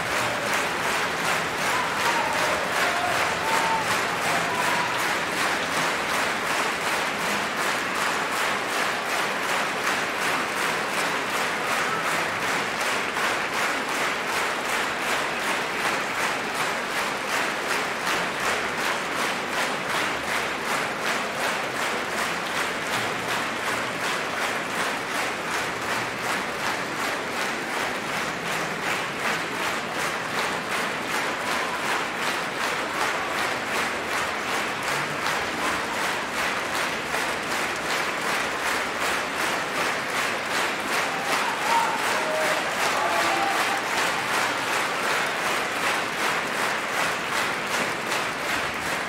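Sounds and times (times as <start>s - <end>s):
audience clapping in unison: 0.0s - 49.0s.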